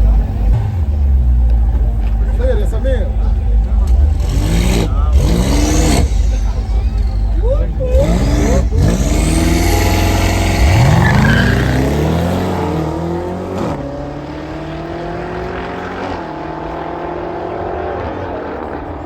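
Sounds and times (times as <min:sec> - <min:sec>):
car engine revving and accelerating: 0:00.0 - 0:19.0.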